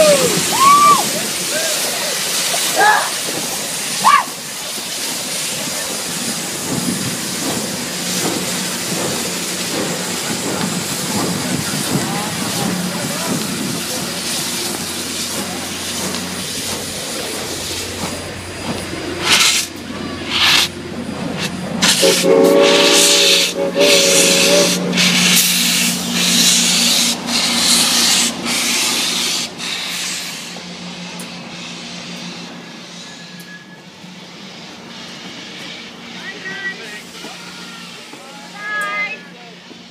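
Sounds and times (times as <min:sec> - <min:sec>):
steam locomotive hissing steam: 0:00.0 - 0:39.9.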